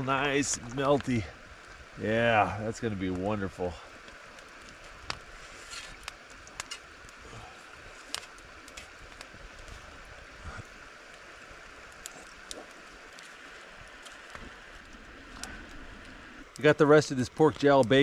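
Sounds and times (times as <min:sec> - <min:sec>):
campfire pops: 0:00.0 - 0:18.0
fire hissing: 0:00.0 - 0:18.0.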